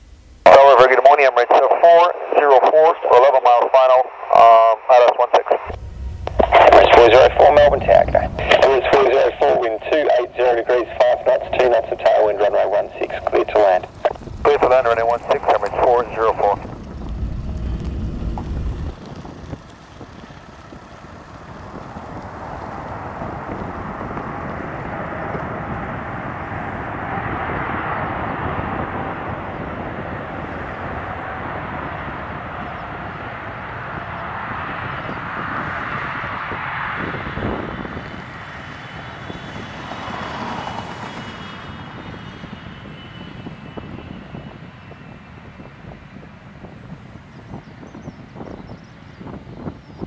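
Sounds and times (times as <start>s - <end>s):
faint high whine: 0.0s - 36.3s, 38.8s - 50.0s
jet engine roar: 0.0s - 50.0s.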